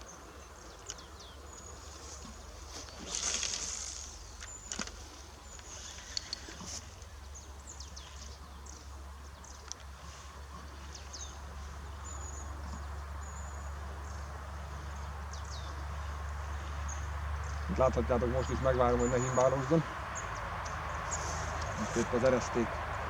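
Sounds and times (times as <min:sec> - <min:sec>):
low wind rumble: 0:00.0 - 0:23.0
small birds chirping: 0:00.0 - 0:23.0.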